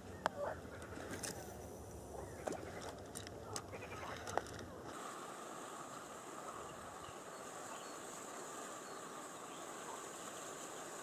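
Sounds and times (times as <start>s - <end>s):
distant wildlife chorus: 0.0s - 11.0s.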